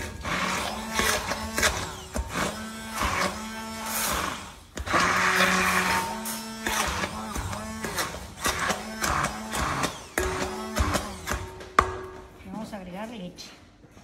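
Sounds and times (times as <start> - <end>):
hand blender motor hum: 0.0 - 11.7.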